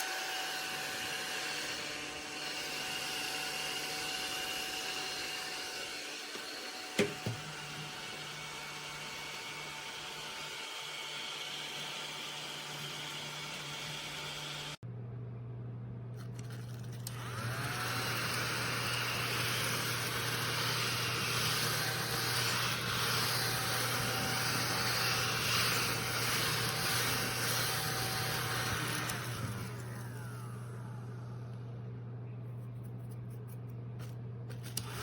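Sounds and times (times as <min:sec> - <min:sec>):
handheld vacuum cleaner running: 0:00.0 - 0:14.8, 0:16.8 - 0:31.7, 0:34.5 - 0:35.0.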